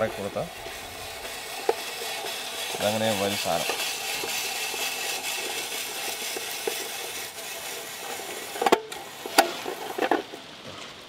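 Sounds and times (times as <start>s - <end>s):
potato cutter scraping: 0.0s - 10.4s.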